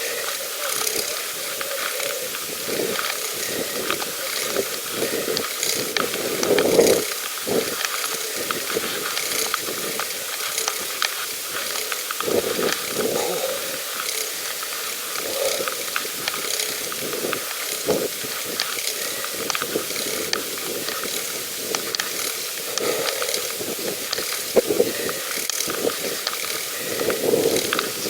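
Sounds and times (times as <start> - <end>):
bicycle freewheel ticking: 0.0 - 28.0
steady hiss: 0.0 - 28.0.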